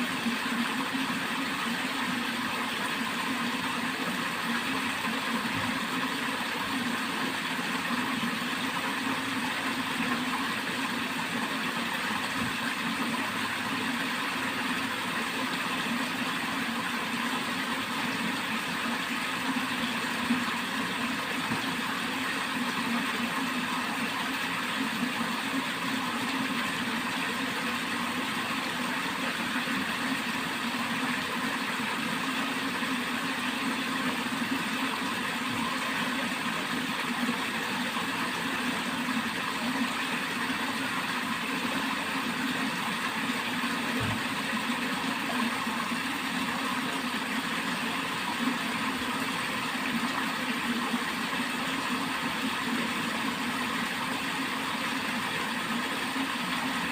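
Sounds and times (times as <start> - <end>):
water rushing along a channel: 0.0 - 56.9.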